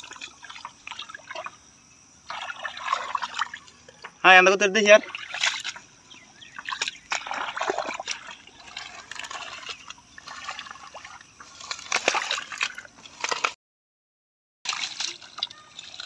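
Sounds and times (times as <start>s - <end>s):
hands squelching through mud: 0.0s - 1.6s, 2.2s - 3.8s, 5.0s - 13.6s, 14.7s - 16.0s
small water splashes: 0.0s - 13.6s, 14.7s - 16.0s.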